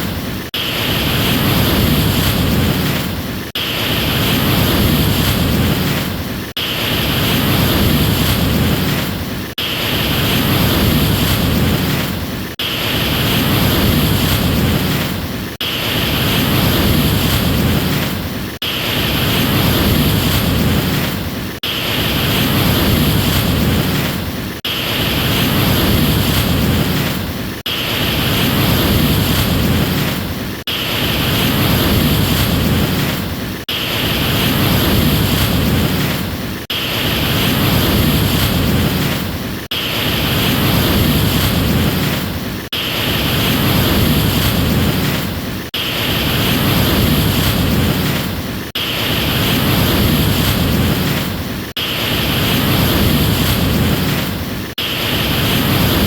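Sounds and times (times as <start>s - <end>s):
ocean waves washing: 0.0s - 56.0s.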